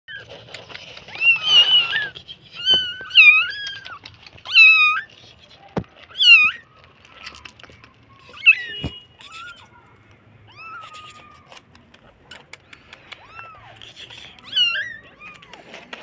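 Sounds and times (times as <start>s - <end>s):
kittens mewing: 0.1s - 16.0s.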